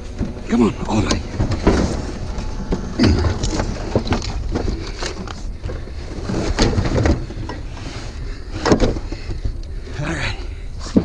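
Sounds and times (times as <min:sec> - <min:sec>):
knocks and clunks: 0:00.0 - 0:09.6
steady low rumble: 0:00.0 - 0:11.0.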